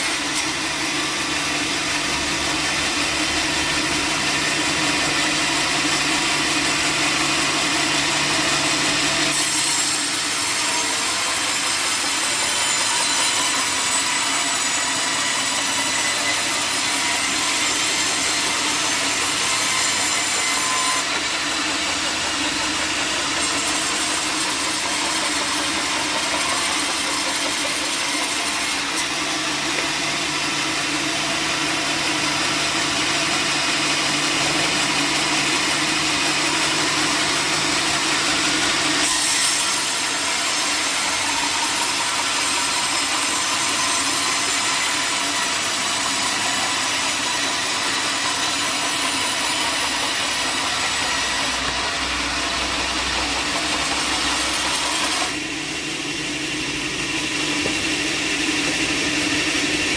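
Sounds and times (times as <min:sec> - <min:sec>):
power saw cutting timber: 0:00.0 - 0:59.9.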